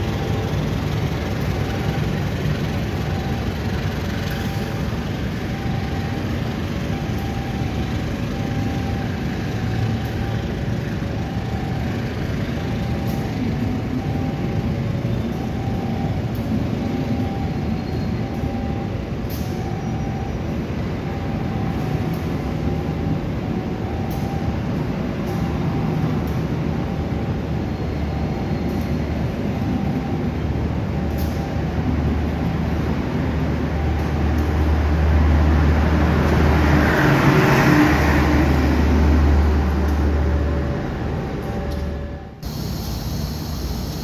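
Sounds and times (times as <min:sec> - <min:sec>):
train wheels rumbling on rails: 0:00.0 - 0:42.7.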